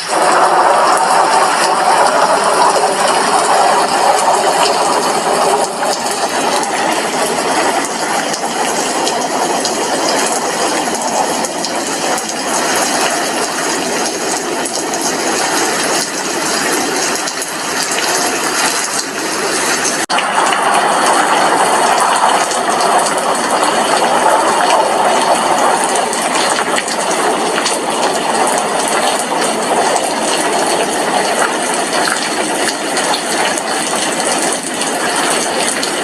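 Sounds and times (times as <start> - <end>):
rain on a glass window: 0.0 - 36.0.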